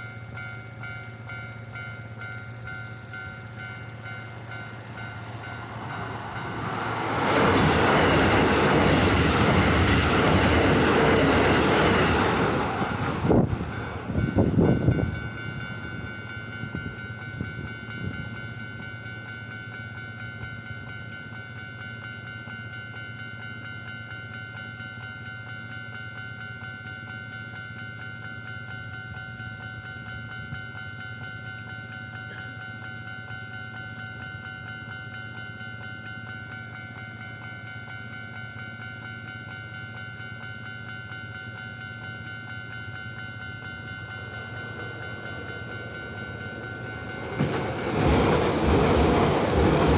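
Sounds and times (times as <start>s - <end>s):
level crossing warning bell: 0.0s - 49.9s
train passing: 0.0s - 49.9s.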